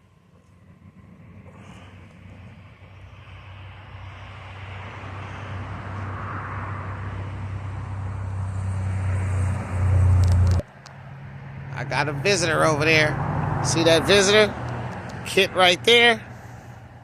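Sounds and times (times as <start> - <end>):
passing vehicle engine hum: 0.0 - 17.0.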